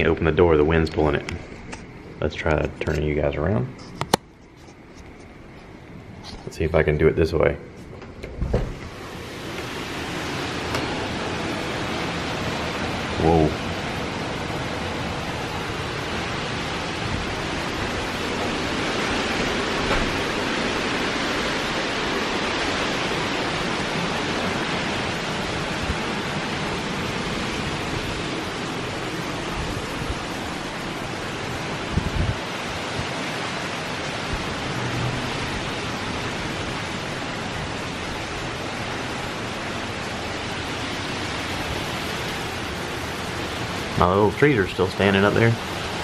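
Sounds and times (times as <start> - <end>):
wind buffeting microphone: 8.2 - 46.0
strong wind rushing: 8.3 - 46.0.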